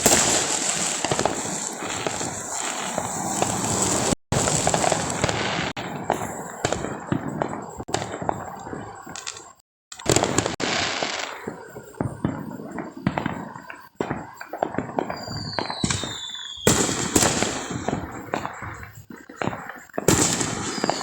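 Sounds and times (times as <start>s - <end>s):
falling firework whistle: 0.0s - 21.0s
fireworks banging and crackling: 0.0s - 21.0s.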